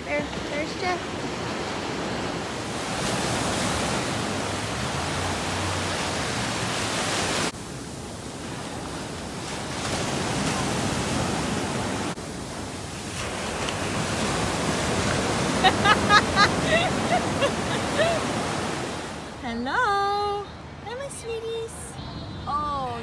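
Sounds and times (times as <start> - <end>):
ocean surf washing: 0.0 - 23.0.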